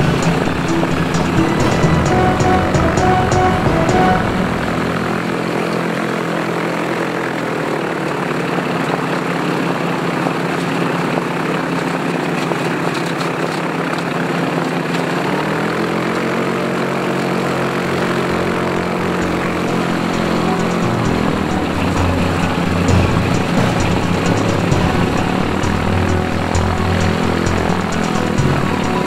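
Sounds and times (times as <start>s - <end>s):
aircraft engine and propeller: 0.0s - 29.0s.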